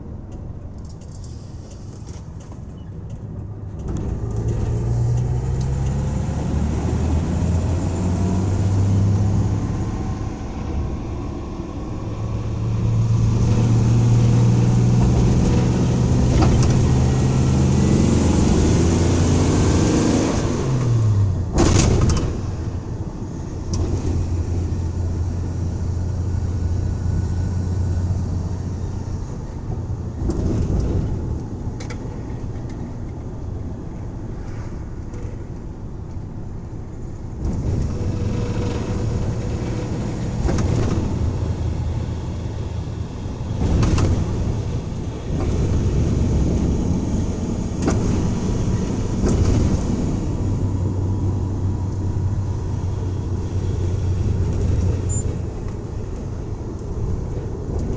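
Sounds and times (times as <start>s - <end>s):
van engine under load: 0.0s - 57.9s.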